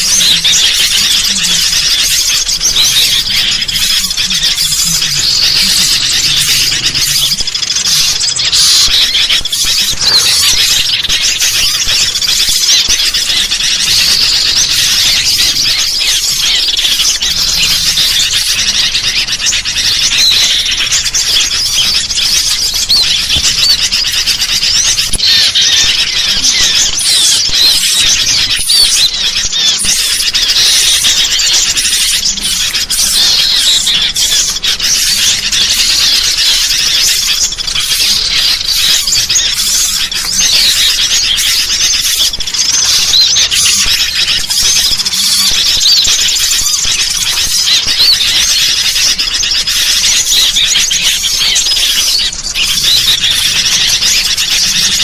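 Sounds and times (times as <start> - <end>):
bulbuls calling noisily: 0.0 - 55.0
small birds chirping: 0.0 - 55.0.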